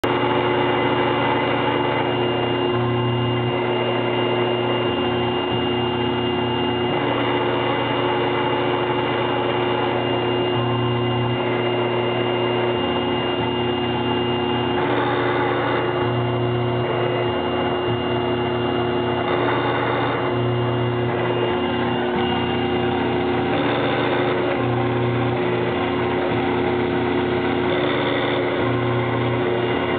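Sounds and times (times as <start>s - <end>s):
low motor hum: 0.0s - 29.9s
milling machine whining: 0.0s - 29.9s.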